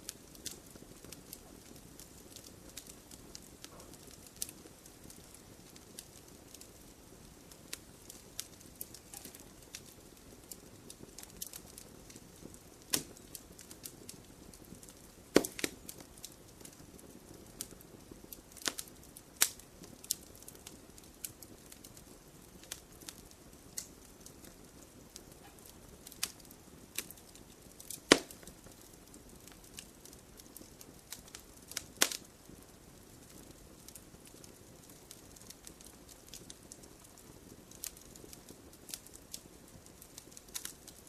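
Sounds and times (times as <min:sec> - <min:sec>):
low hiss of burning: 0:00.0 - 0:41.0
wood fire crackling and popping: 0:00.0 - 0:41.0.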